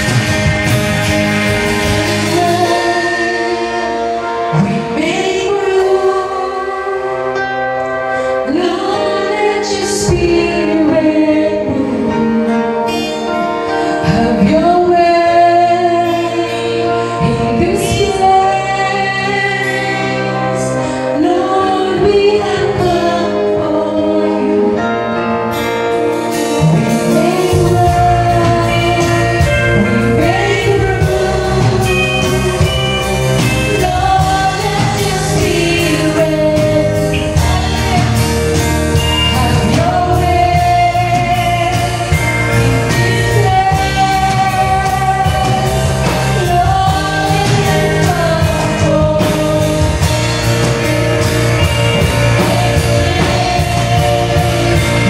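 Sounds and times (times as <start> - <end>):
drum kit: 0.0 - 6.8, 8.8 - 55.0
bass guitar: 0.0 - 55.0
keyboard: 0.0 - 55.0
women singing together: 2.2 - 7.4, 8.4 - 12.4, 14.1 - 24.8, 26.8 - 55.0.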